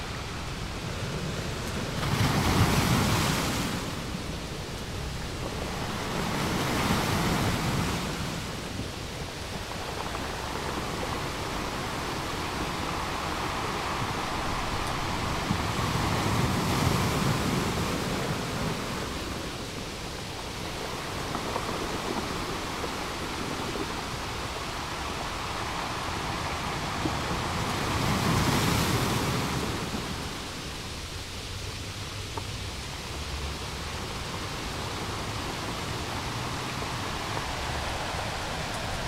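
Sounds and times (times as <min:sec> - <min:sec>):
sea rushing: 0:00.0 - 0:39.0
wind: 0:00.0 - 0:39.0.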